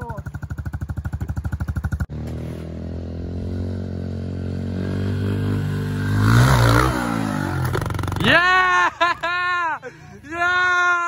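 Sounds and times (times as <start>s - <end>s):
dirt bike engine accelerating: 0.0s - 9.5s.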